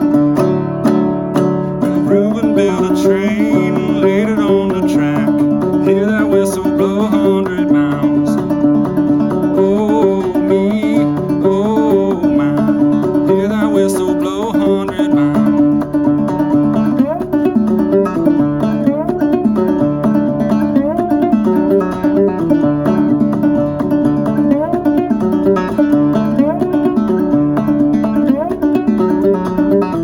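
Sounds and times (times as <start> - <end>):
banjo plucked melody: 0.0 - 30.0.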